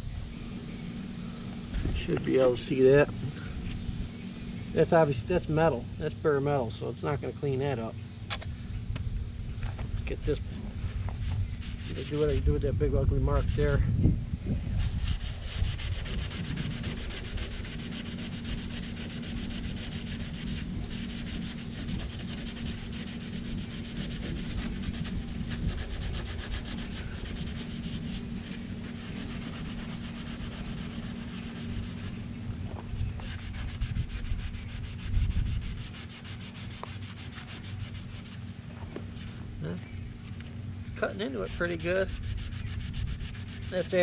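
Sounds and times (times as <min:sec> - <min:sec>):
hand rubbing compound on car paint: 0:00.7 - 0:03.9, 0:09.5 - 0:13.9, 0:14.5 - 0:44.0.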